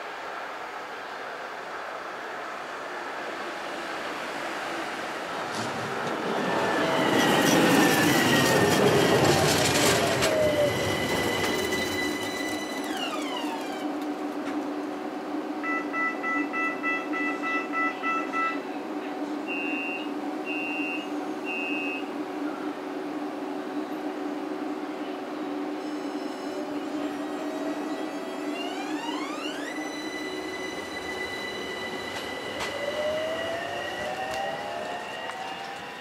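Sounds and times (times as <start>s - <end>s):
tram wheel and running noise: 0.0s - 36.0s.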